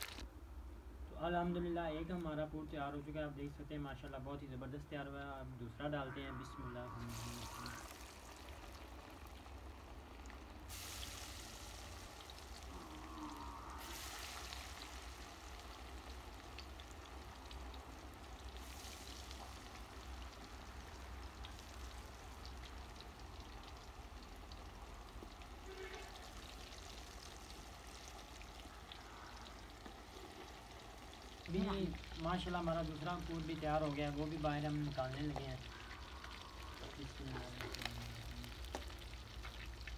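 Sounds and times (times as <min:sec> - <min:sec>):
fish deep-frying sizzle: 0:00.0 - 0:00.3, 0:06.1 - 0:39.9.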